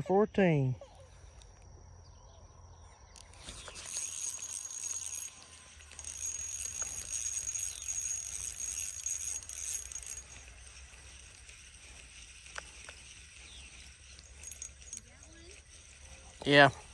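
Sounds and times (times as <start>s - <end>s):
fishing reel whirring: 3.1s - 16.9s.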